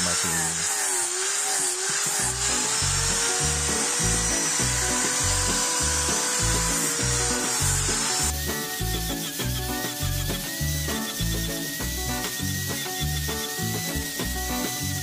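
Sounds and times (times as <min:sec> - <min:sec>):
angle grinder sanding wood: 0:00.0 - 0:15.0
music with bass beat: 0:02.9 - 0:15.0.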